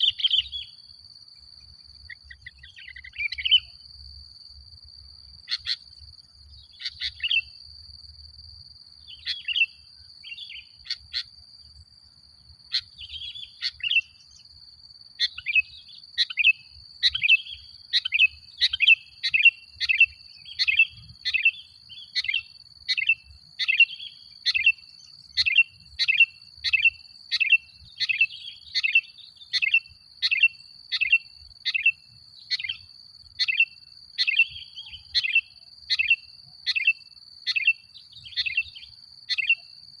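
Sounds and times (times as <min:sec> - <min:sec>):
bulbul singing: 0:00.0 - 0:00.8, 0:02.0 - 0:03.8, 0:05.4 - 0:07.6, 0:09.0 - 0:11.4, 0:12.7 - 0:14.6, 0:15.2 - 0:39.7.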